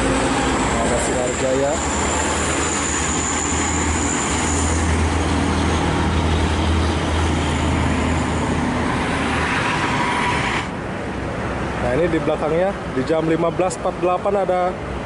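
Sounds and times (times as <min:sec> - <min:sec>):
bus diesel engines droning: 0:00.0 - 0:15.0
road traffic hiss: 0:00.0 - 0:15.0.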